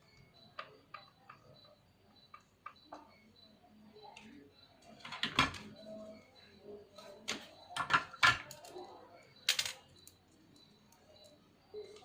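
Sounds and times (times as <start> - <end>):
hard objects clicking and knocking: 0.0 - 3.5, 4.1 - 6.1, 7.0 - 11.3.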